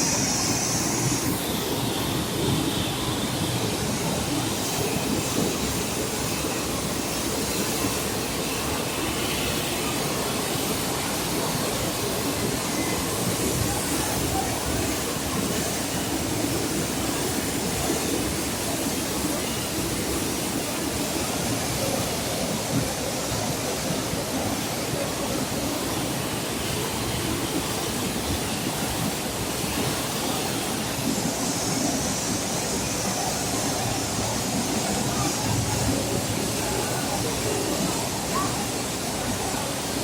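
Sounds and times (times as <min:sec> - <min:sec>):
floodwater rushing roar: 0:00.0 - 0:40.0.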